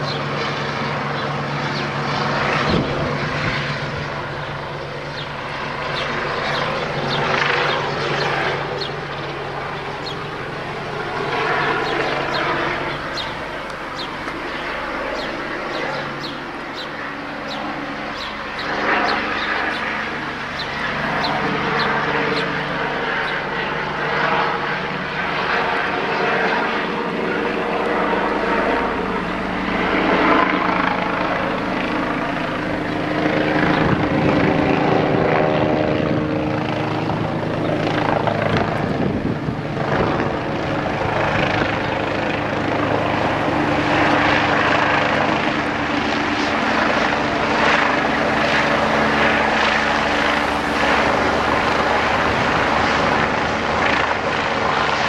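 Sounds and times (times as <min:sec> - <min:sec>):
helicopter rotor thrum and turbine: 0:00.0 - 0:55.0.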